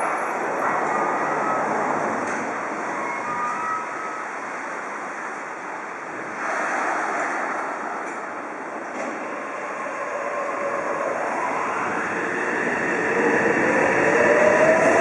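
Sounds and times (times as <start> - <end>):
subway train equipment humming: 0.0 - 15.0.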